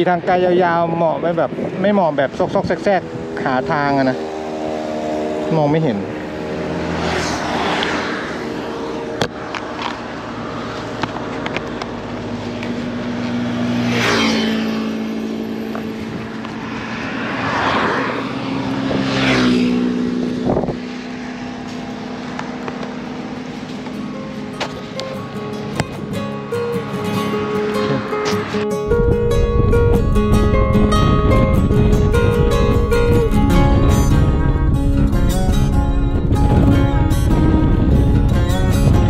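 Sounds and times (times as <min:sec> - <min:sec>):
motorcycle engine cruising: 0:00.0 - 0:39.0
road noise: 0:00.0 - 0:39.0
rushing wind: 0:00.0 - 0:39.0.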